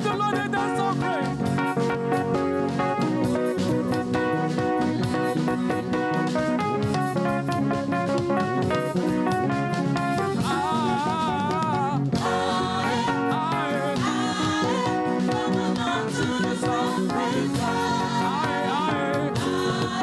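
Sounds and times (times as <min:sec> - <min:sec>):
gospel band music: 0:00.0 - 0:20.0.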